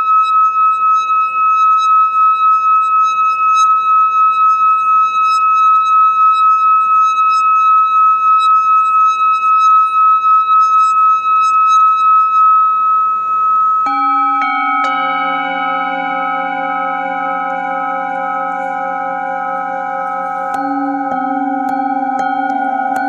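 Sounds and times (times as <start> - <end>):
singing bowl ringing: 0.0 - 23.0.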